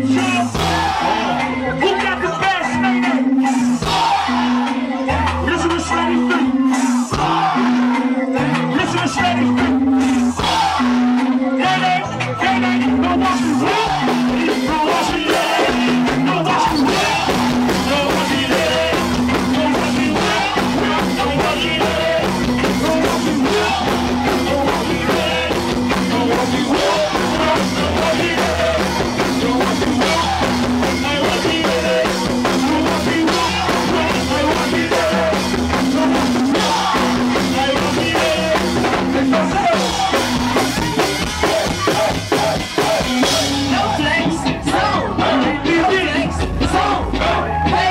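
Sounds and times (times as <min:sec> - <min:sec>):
drum kit and percussion beat: 0:00.0 - 0:47.9
person singing: 0:00.0 - 0:47.9
repeating bass line: 0:00.0 - 0:47.9.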